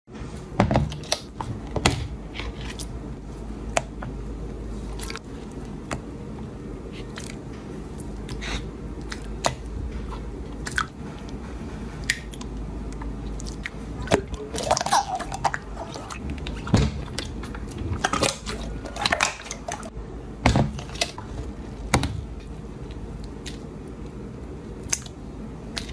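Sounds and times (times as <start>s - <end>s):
steady low hum: 0.1s - 25.9s.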